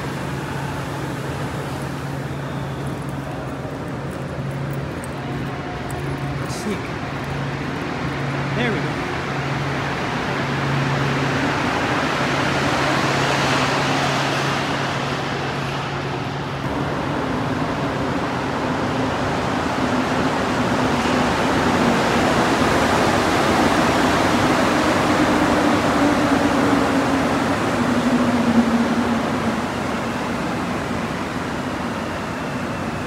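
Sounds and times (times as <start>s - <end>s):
metro train rumble: 0.0s - 33.0s.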